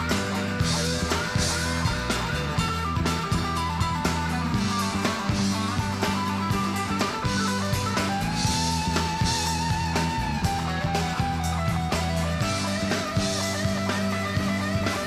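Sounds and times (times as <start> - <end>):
guitar: 0.0 - 15.0
steady drum beat: 0.0 - 15.0
sustained bass notes: 0.0 - 15.0.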